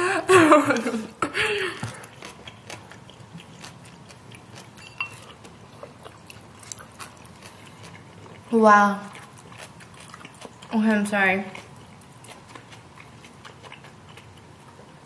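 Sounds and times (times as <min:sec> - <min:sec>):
chewing noodles: 0:01.6 - 0:15.0.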